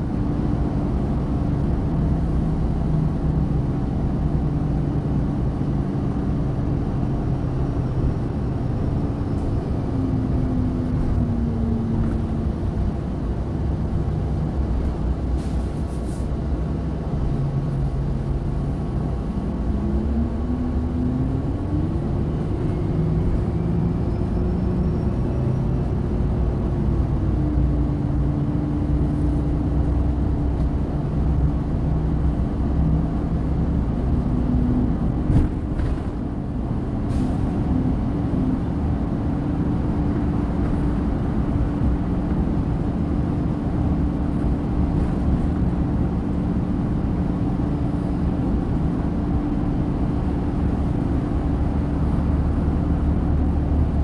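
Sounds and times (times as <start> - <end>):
bus engine drone from inside: 0.0 - 54.0.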